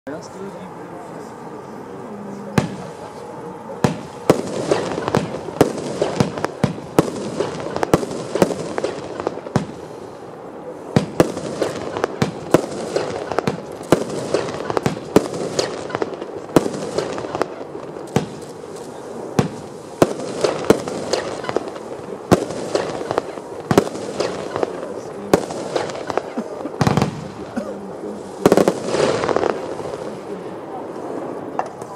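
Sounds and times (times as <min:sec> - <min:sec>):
firework cracks: 0:02.5 - 0:03.1, 0:03.8 - 0:31.9.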